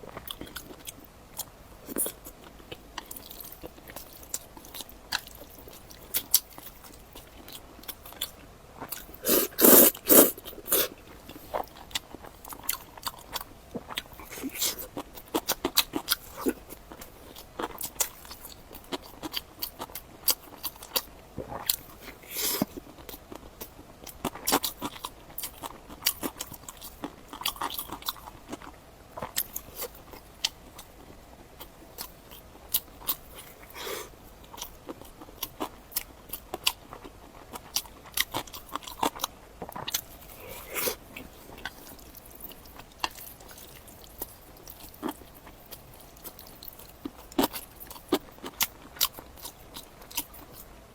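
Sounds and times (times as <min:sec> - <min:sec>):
person chewing and crunching food: 0:00.0 - 0:50.7.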